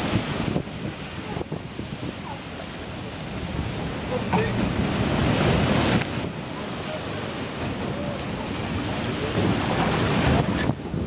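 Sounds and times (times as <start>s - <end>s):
ocean waves and surf: 0.0s - 11.0s
wind buffeting microphone: 0.0s - 11.0s.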